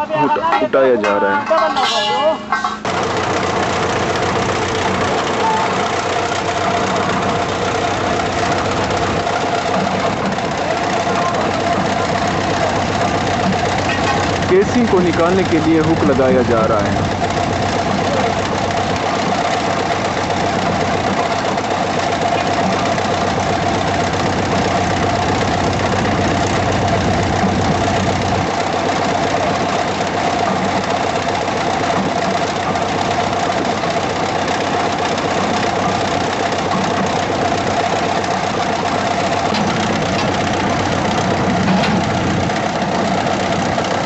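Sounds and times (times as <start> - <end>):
constant whine: 0.0 - 44.0
heavy machinery engine rumble: 0.0 - 44.0.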